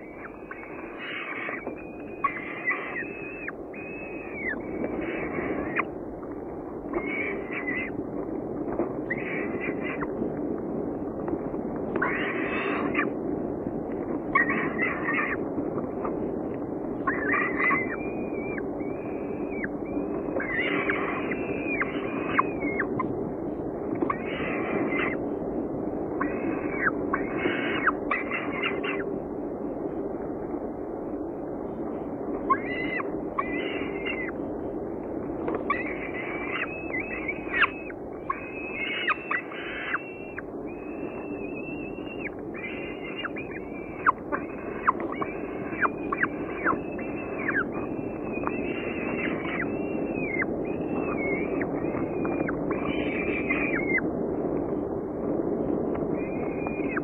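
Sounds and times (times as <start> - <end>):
falcon chicks begging calls: 0.0 - 8.0, 8.6 - 10.3, 11.8 - 13.2, 14.2 - 23.1, 23.9 - 25.3, 26.1 - 29.1, 32.4 - 34.5, 35.4 - 54.1, 55.9 - 57.0
steady low hiss: 0.0 - 57.0.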